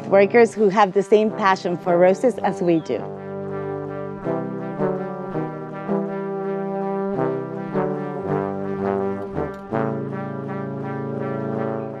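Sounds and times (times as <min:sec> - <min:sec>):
sustained instrumental chords: 0:00.0 - 0:12.0.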